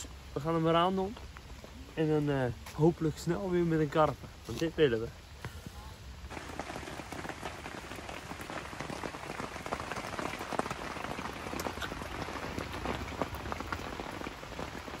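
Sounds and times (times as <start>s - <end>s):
heavy rain on tent: 0.0s - 15.0s.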